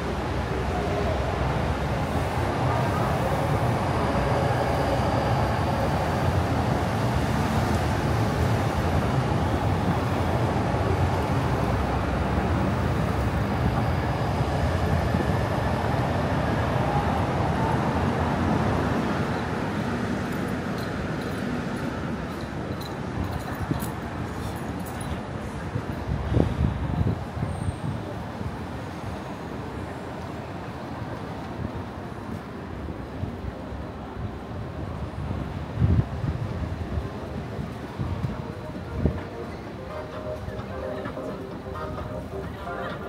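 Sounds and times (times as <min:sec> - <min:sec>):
city road traffic rumble: 0:00.0 - 0:43.0.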